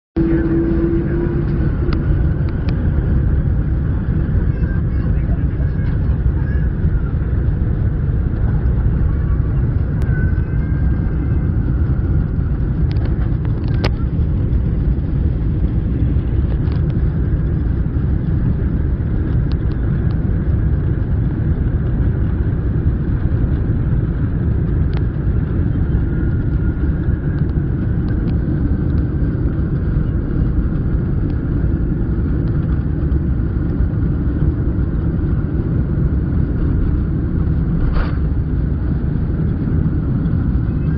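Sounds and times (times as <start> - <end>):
airliner engines and runway rumble: 0.0 - 40.9.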